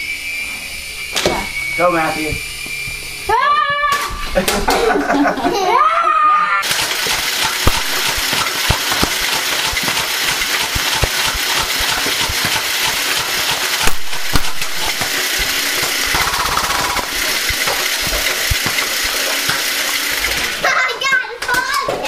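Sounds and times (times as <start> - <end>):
rc helicopter buzzing: 0.0 - 3.6, 6.6 - 20.7.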